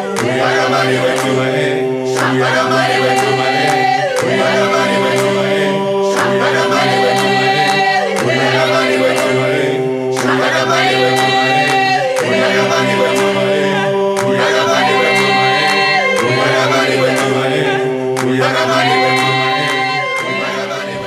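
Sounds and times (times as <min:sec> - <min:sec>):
a cappella choir singing: 0:00.0 - 0:21.0
light clicking beat: 0:00.0 - 0:21.0.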